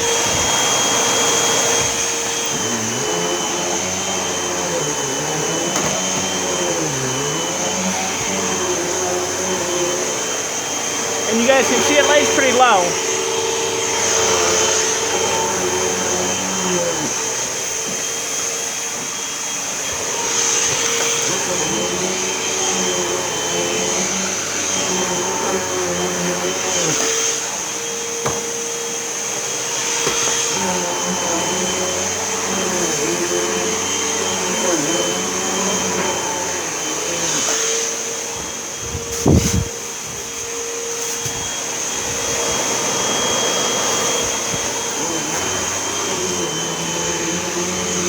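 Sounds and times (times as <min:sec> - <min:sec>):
upright vacuum cleaner running: 0:00.0 - 0:48.0.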